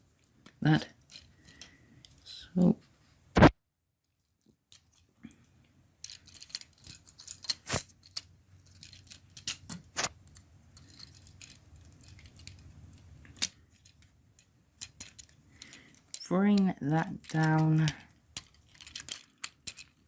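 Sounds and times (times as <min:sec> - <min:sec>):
plastic toy parts clicking: 0:00.2 - 0:02.3, 0:04.1 - 0:05.1, 0:06.0 - 0:20.0.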